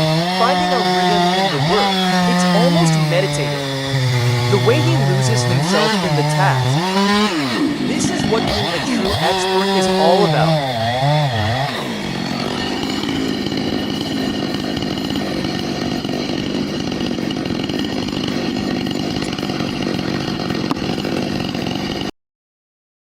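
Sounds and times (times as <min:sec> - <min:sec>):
chainsaw cutting wood: 0:00.0 - 0:22.1.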